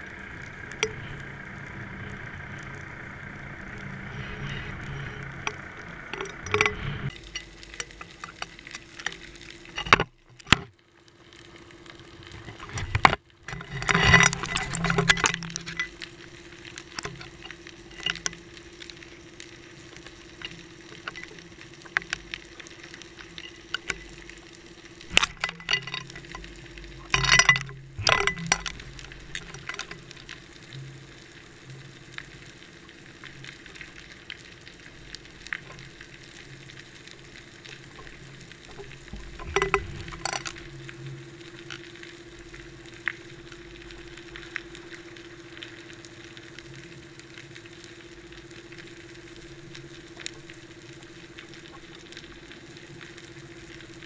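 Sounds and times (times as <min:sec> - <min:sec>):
faint steady hum: 0:00.0 - 0:54.0
underwater crackling clicks and knocks: 0:00.6 - 0:01.2, 0:04.3 - 0:54.0.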